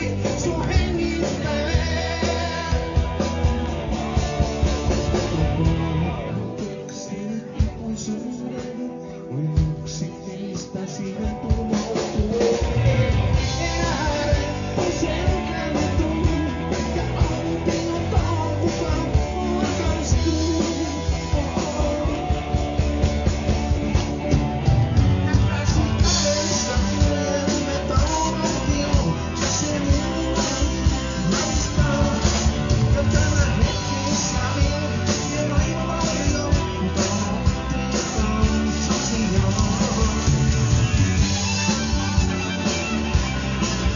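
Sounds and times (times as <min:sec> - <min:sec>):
steady drum beat: 0:00.0 - 0:06.9, 0:11.1 - 0:43.9
live rock band playing: 0:00.0 - 0:43.9.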